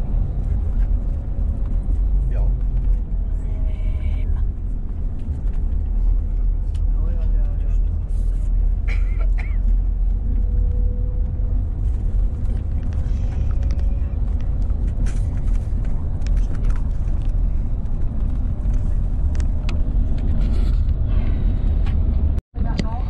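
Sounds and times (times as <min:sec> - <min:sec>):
vehicle rumble from inside: 0:00.0 - 0:23.0.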